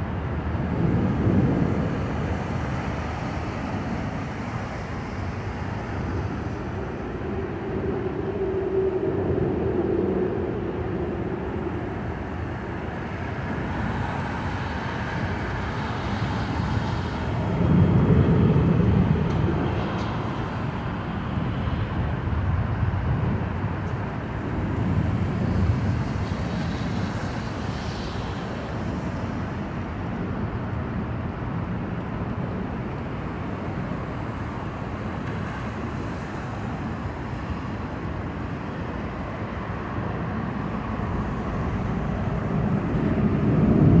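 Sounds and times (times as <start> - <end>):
city street traffic rumble: 0.0 - 44.0.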